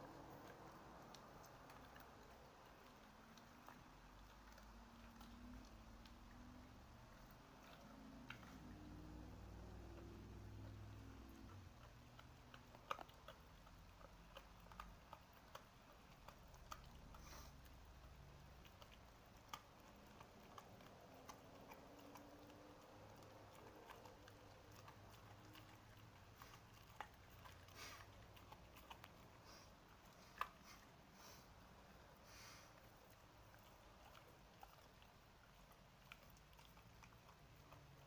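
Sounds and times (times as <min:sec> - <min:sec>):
faint clicks and ticks: 0:00.0 - 0:31.0, 0:31.8 - 0:38.0.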